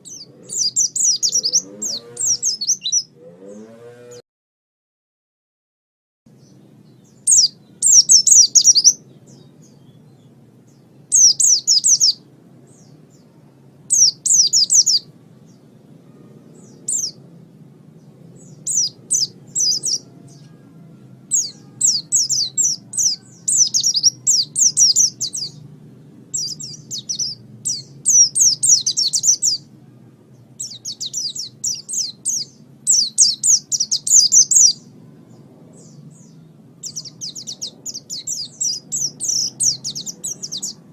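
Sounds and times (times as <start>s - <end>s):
bird singing rapid high chirps: 0.0s - 3.1s, 6.3s - 17.3s, 18.0s - 20.5s, 21.3s - 25.7s, 26.3s - 29.7s, 30.3s - 40.9s.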